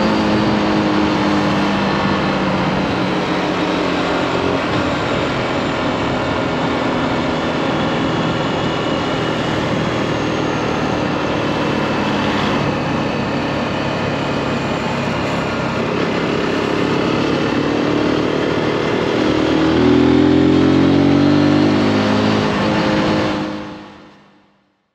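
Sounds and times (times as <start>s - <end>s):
wide rush of noise: 0.0s - 24.4s
motorcycle engine running: 0.0s - 24.6s.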